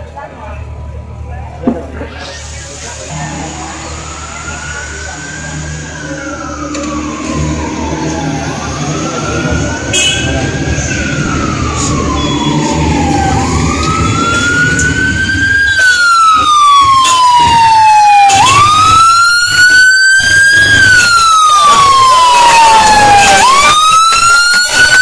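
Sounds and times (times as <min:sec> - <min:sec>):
vehicle engines rumbling: 0:00.0 - 0:25.0
police siren wailing: 0:02.0 - 0:25.0.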